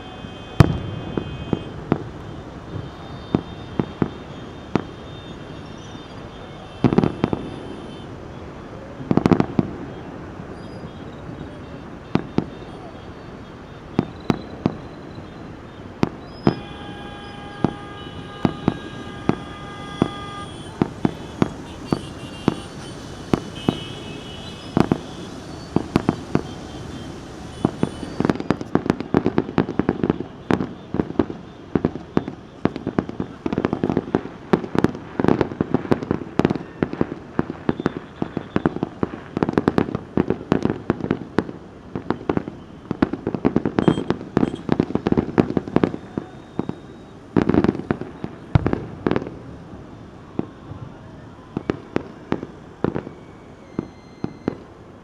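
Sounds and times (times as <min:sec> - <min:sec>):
fireworks bangs and crackling: 0:00.0 - 0:55.0
rumble of explosions: 0:00.2 - 0:07.8, 0:13.6 - 0:54.8.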